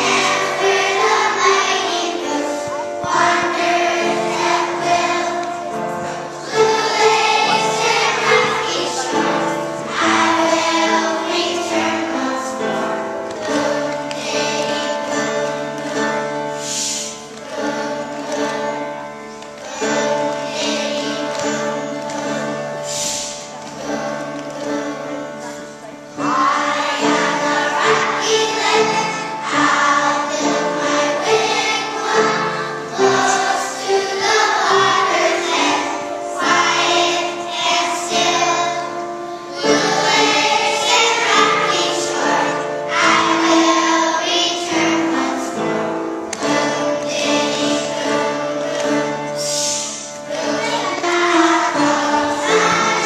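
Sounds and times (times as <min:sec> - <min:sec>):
children singing: 0:00.0 - 0:53.0
instrumental accompaniment: 0:00.0 - 0:53.0.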